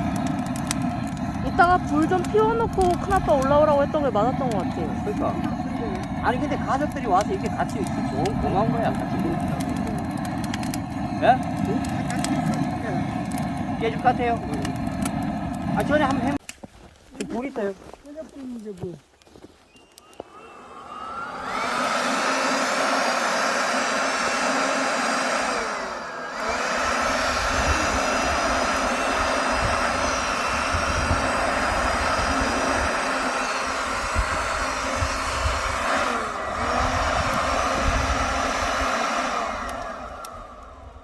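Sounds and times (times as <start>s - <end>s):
electric motor whirring: 0.0s - 16.4s, 19.8s - 41.0s.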